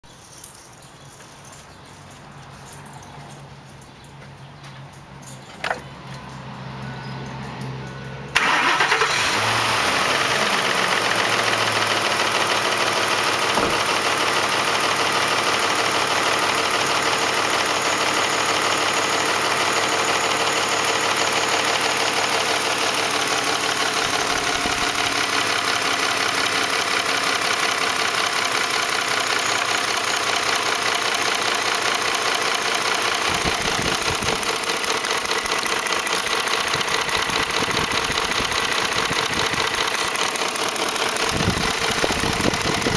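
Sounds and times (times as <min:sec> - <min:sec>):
engine idling with rapid ticking: 0:08.3 - 0:42.9.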